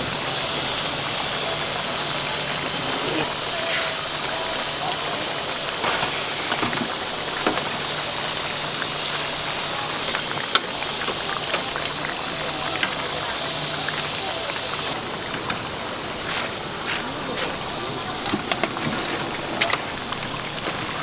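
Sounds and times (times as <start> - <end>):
hot oil sizzling and crackling: 0.0 - 21.0.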